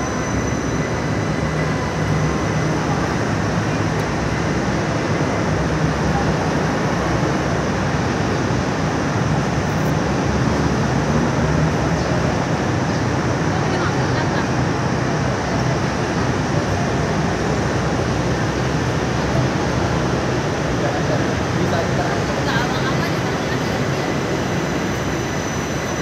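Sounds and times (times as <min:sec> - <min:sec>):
light rail train rumbling: 0:00.0 - 0:26.0.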